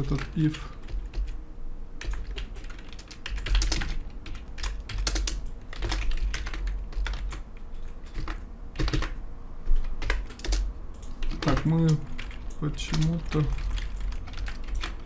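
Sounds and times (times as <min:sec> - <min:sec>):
typing on keyboard: 0:00.0 - 0:01.4, 0:02.0 - 0:15.0.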